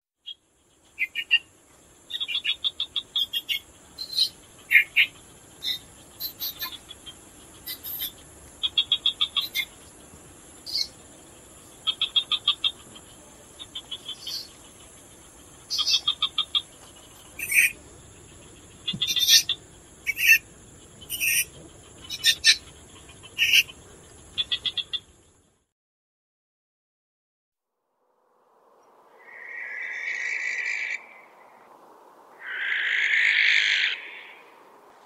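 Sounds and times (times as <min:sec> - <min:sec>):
owl chittering calls: 0:00.3 - 0:01.5, 0:02.1 - 0:25.1, 0:29.2 - 0:31.7, 0:32.3 - 0:34.5.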